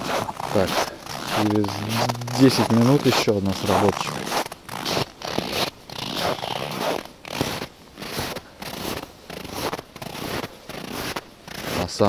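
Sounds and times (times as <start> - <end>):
footsteps crunching on snow: 0.0 - 12.0.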